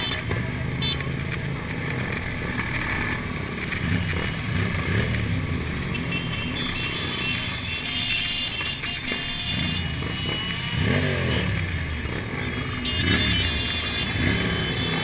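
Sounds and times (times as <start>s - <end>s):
motorcycle engines in traffic: 0.0s - 15.0s.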